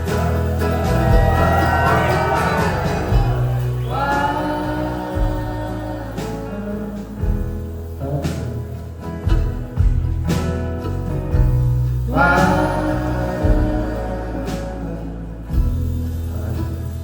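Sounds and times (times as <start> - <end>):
live band playing folk-rock: 0.0 - 17.0.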